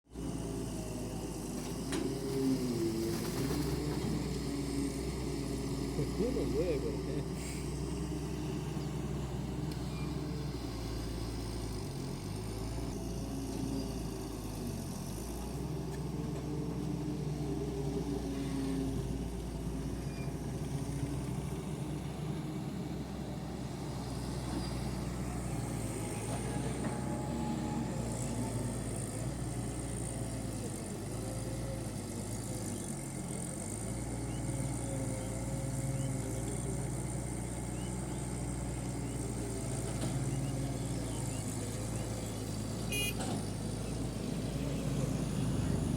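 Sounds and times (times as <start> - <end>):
excavator diesel engine running: 0.1 - 45.9.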